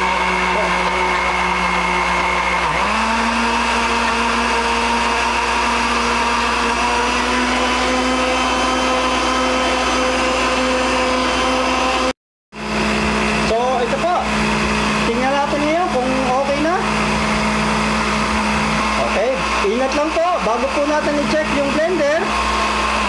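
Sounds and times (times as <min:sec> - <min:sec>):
blender motor whining: 0:00.0 - 0:23.0.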